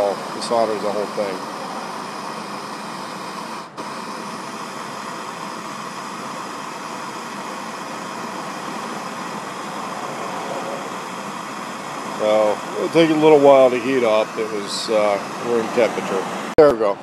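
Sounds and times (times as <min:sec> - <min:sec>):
gas torch flame hissing: 0:00.0 - 0:16.6.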